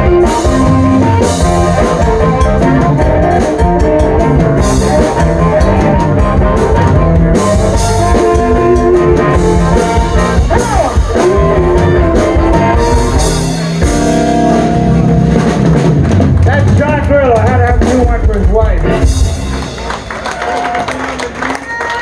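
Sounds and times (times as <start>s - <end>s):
bending electric guitar lead: 0.0s - 21.0s
live blues band playing: 0.0s - 22.0s.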